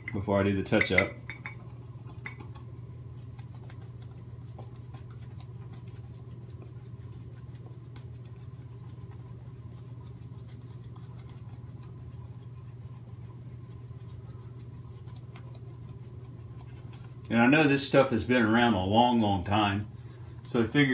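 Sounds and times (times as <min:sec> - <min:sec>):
shaving brush strokes: 0:00.0 - 0:20.9
steady low hum: 0:00.0 - 0:20.9.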